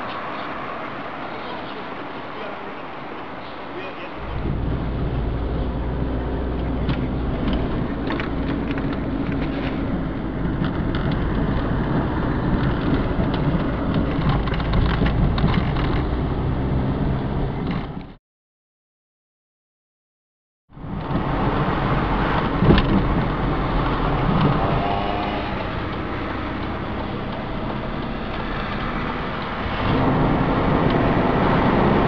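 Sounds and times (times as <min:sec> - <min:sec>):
car engine hum: 0:00.0 - 0:18.2, 0:20.7 - 0:32.0
road noise: 0:00.0 - 0:18.2, 0:20.7 - 0:32.0.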